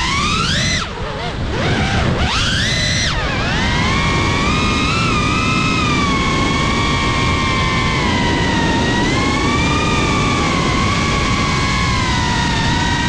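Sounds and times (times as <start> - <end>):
drone motors whining: 0.0 - 13.0
propeller and wind rush: 0.0 - 13.0.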